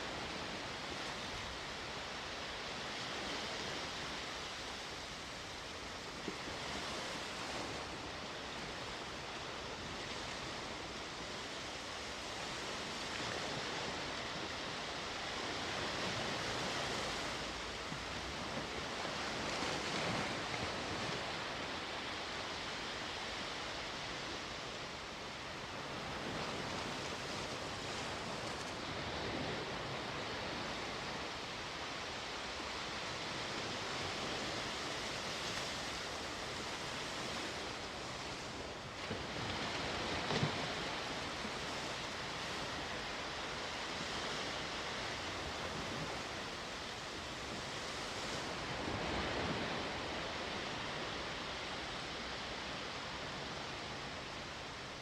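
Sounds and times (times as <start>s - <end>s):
sea waves washing ashore: 0.0s - 55.0s.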